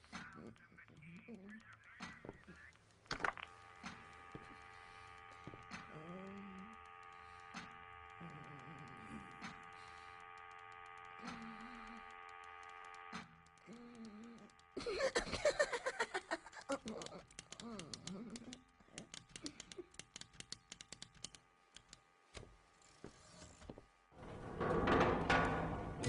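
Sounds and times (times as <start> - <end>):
sharp clicks: 0.0 - 22.4
mechanical hum: 0.0 - 26.0.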